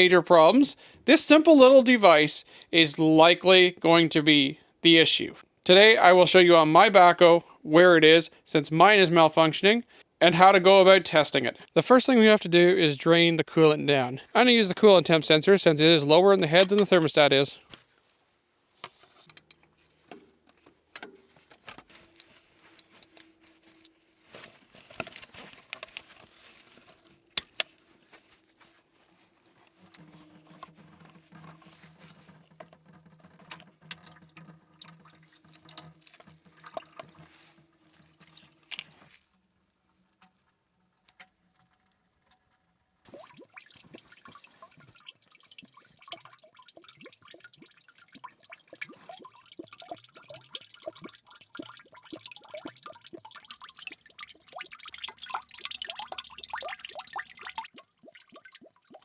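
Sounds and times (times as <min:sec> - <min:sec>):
coolant pouring and dripping: 0:00.0 - 0:17.7, 0:18.8 - 0:59.0.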